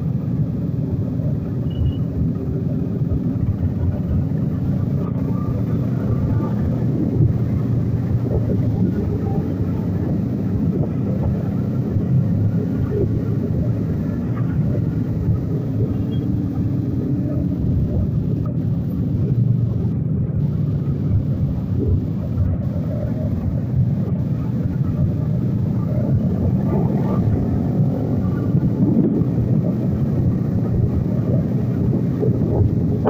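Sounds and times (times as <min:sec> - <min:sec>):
motorcycle engines rumbling: 0:00.0 - 0:33.0.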